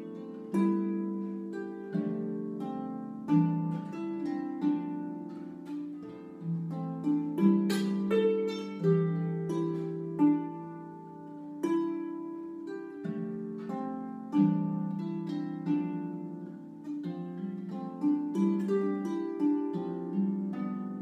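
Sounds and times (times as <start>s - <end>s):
plucked harp melody: 0.0s - 21.0s.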